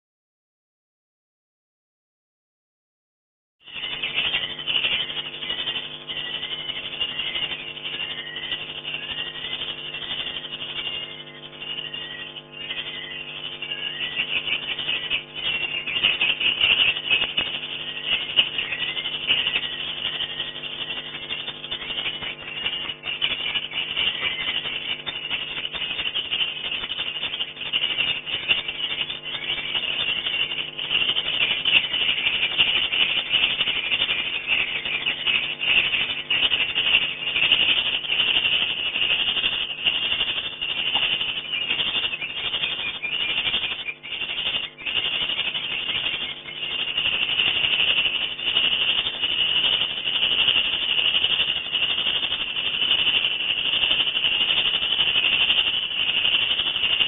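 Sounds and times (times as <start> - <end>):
swiftlets chirping: 3.7 - 57.0.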